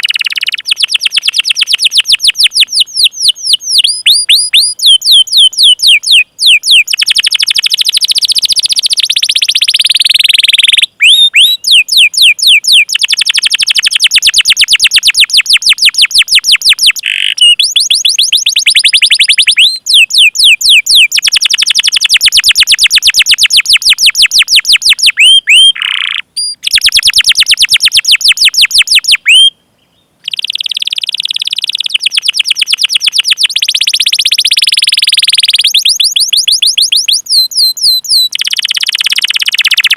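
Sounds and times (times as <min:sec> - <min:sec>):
canary singing chirps: 0:00.0 - 0:39.9.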